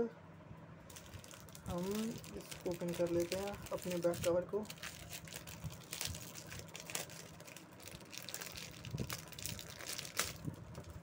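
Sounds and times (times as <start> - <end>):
plastic packaging crinkling: 0.9 - 11.0.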